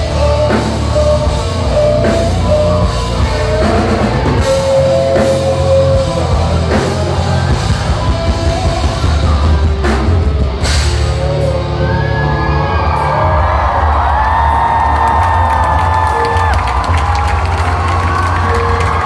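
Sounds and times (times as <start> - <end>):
live heavy rock band: 0.0 - 19.0.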